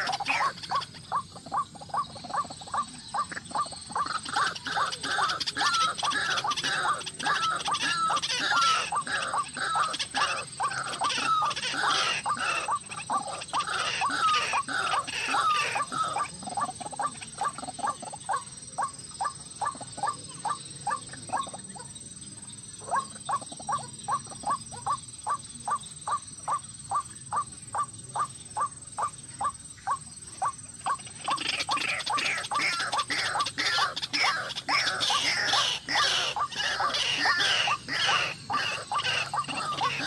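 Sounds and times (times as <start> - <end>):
harsh croaking calls: 0.0 - 40.0.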